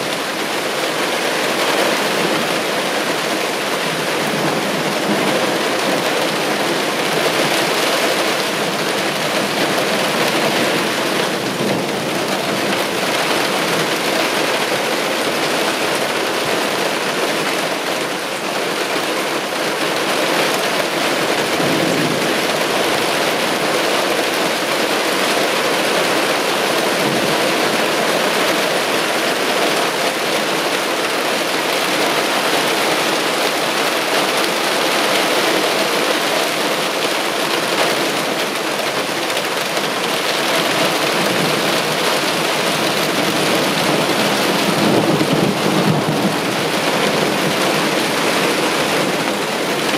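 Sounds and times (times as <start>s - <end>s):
heavy rain downpour: 0.0s - 49.9s.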